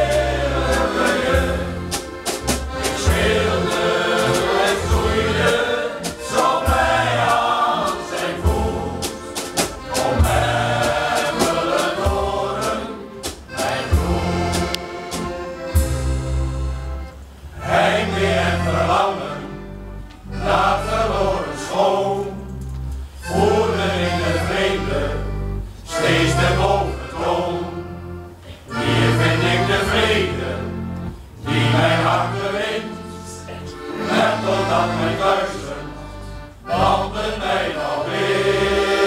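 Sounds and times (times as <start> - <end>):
male choir singing: 0.0 - 2.1, 2.7 - 14.7, 17.6 - 22.5, 23.2 - 28.0, 28.7 - 39.0
accordions playing: 0.0 - 39.0.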